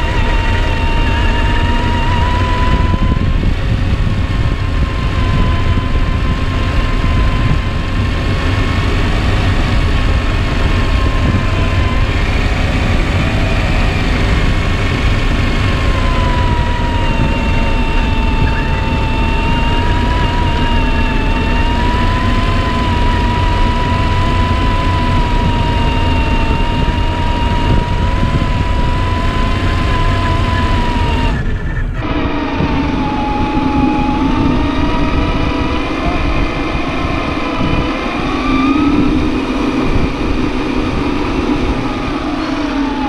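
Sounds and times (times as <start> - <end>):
continuous low rumble: 0.0 - 43.0
electric drivetrain whine: 0.0 - 43.0.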